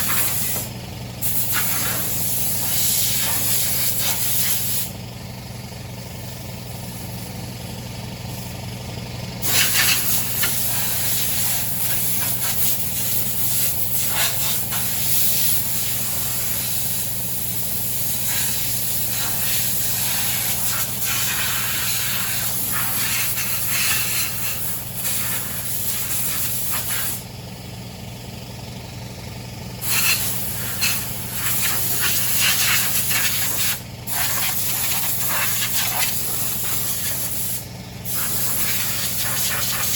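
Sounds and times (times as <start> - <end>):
pressure washer spray hissing: 0.0 - 4.9, 9.4 - 27.2, 29.8 - 39.9
pressure washer motor hum: 0.0 - 39.9.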